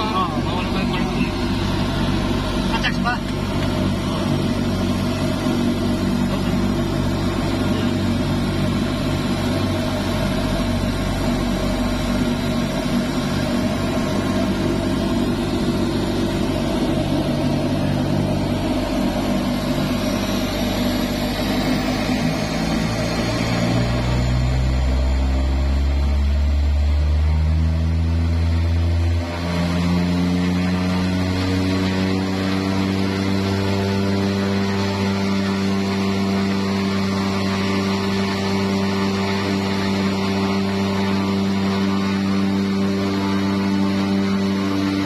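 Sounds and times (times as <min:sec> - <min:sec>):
turboprop engine running: 0:00.0 - 0:45.0.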